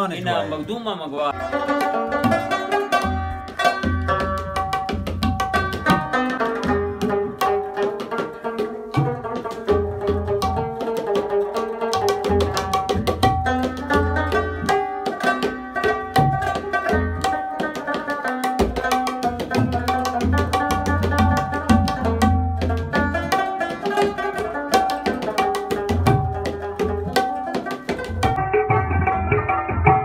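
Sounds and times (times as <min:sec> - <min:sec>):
plucked rubab melody: 0:00.0 - 0:30.0
tabla strokes: 0:01.3 - 0:30.0.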